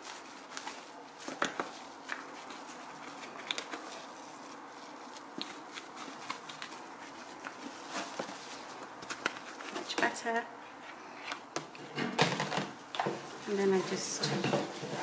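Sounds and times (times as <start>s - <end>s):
cloth wiping fan blades: 0.0s - 11.0s, 13.2s - 15.0s.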